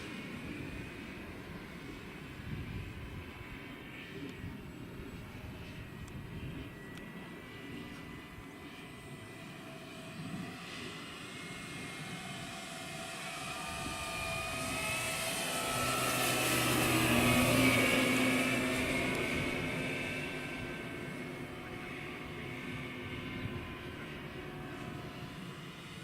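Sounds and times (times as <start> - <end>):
model plane motor whine flying past: 0.0 - 26.0.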